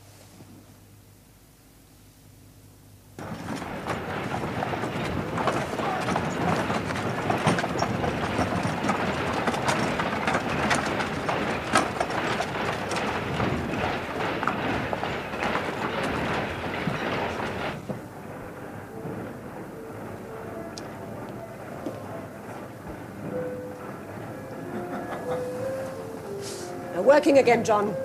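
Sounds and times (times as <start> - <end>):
cart wheels knocking: 3.2 - 28.0
horse hooves on cobblestones: 3.2 - 28.0.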